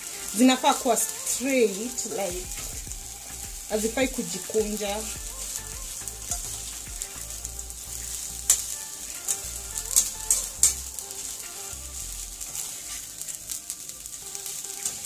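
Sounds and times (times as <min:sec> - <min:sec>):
fish sizzling in a frying pan: 0:00.0 - 0:15.0
metal spatula scraping a pan: 0:00.0 - 0:15.0.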